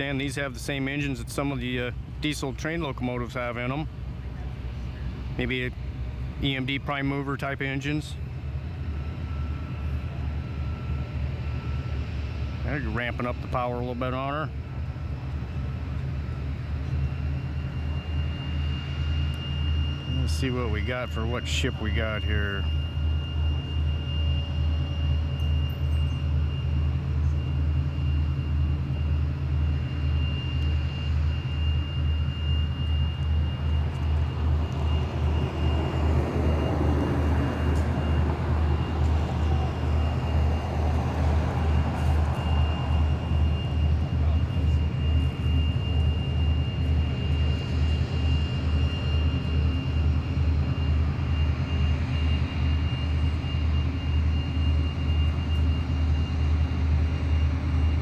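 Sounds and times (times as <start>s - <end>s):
diesel engines throbbing: 0.0s - 58.0s.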